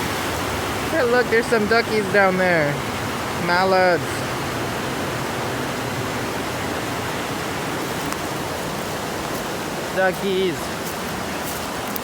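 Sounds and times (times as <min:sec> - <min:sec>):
flooded creek water rushing: 0:00.0 - 0:12.0.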